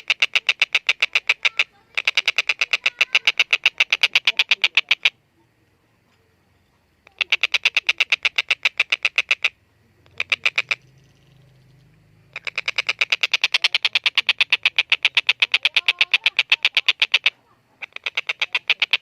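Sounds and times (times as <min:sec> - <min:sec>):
kingfisher chattering call: 0:00.0 - 0:05.2, 0:07.0 - 0:19.0.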